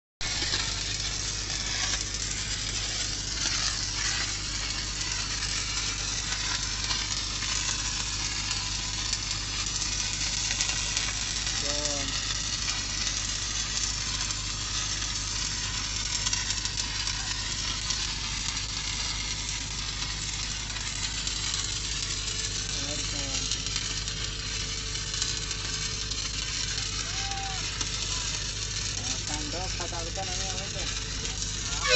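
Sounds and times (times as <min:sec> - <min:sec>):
welding arc crackling: 0:00.2 - 0:31.9.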